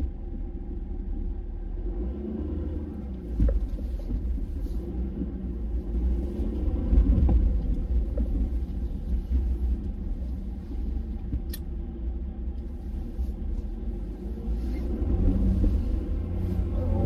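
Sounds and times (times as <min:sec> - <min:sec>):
truck engine low rumble: 0:00.0 - 0:17.0.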